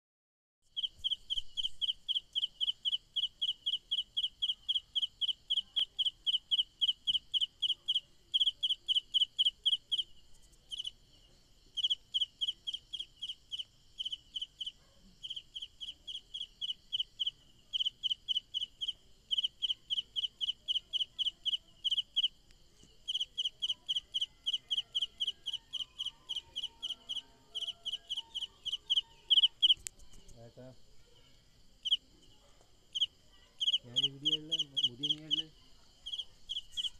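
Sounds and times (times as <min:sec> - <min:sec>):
cricket chirping: 0:00.6 - 0:36.9.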